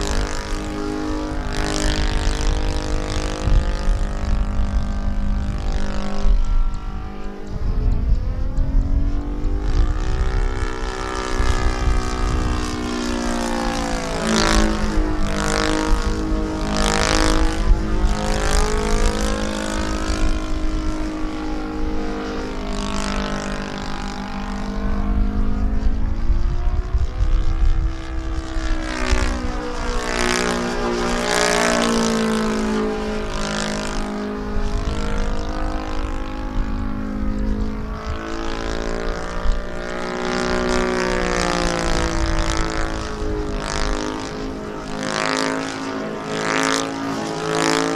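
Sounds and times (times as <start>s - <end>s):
model airplane engine and propeller: 0.0s - 47.9s.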